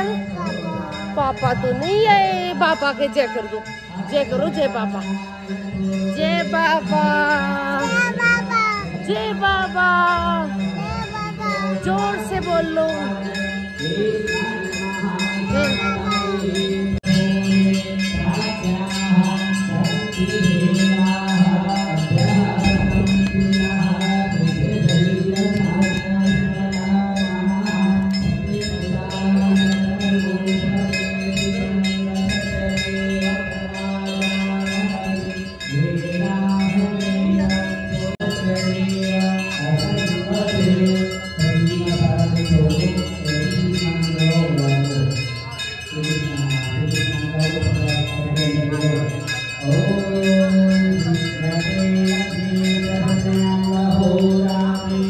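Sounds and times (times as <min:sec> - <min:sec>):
crowd singing or chanting: 0:00.0 - 0:55.0
temple bells ringing: 0:00.0 - 0:55.0.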